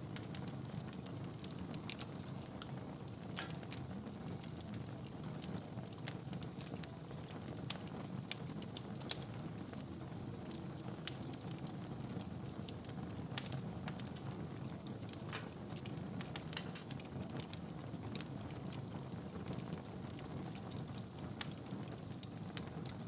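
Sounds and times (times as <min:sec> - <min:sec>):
burning logs crackling and popping: 0:00.0 - 0:23.0
low rumble of flames: 0:00.0 - 0:23.0.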